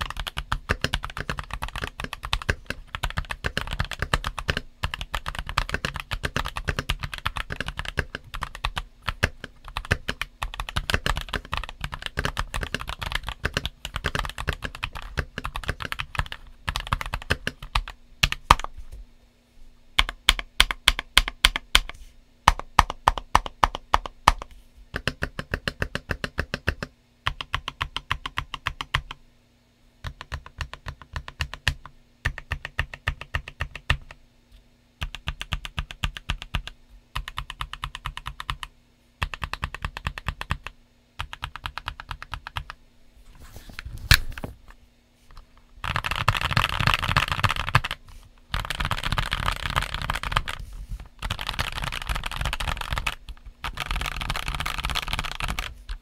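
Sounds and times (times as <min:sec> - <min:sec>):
mechanical keyboard typing: 0:00.0 - 0:18.7, 0:22.5 - 0:29.2, 0:30.0 - 0:34.2, 0:35.0 - 0:42.8, 0:45.8 - 0:50.6, 0:51.2 - 0:56.0.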